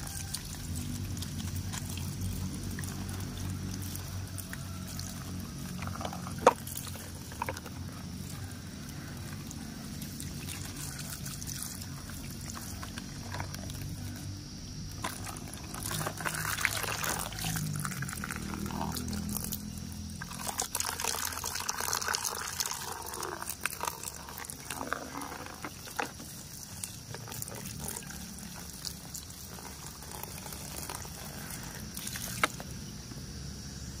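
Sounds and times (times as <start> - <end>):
water splashing over plastic toy: 0.0 - 32.8.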